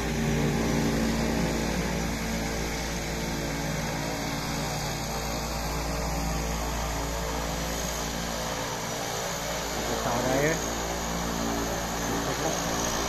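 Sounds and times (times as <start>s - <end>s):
turboprop airplane droning: 0.0s - 13.0s.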